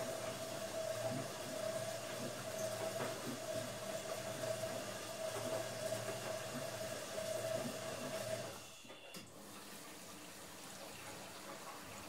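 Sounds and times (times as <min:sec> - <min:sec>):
washing machine whine: 0:00.0 - 0:12.0.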